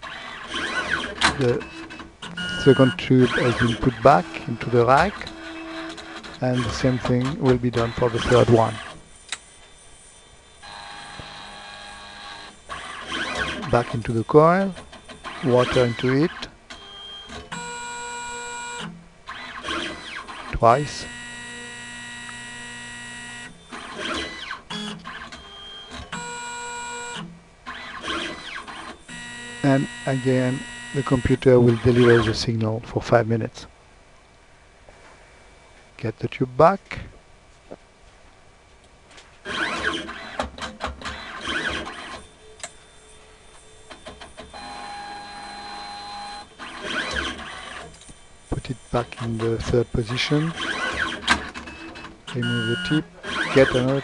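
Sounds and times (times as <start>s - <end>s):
robot motors whining: 0.0s - 32.4s, 39.5s - 54.0s.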